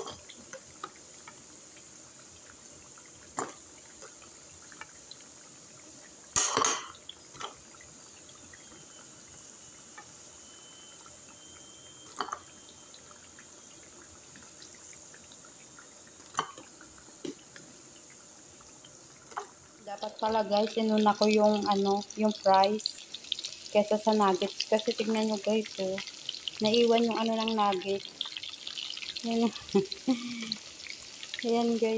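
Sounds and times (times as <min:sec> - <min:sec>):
food deep-frying in oil: 0:00.0 - 0:31.9.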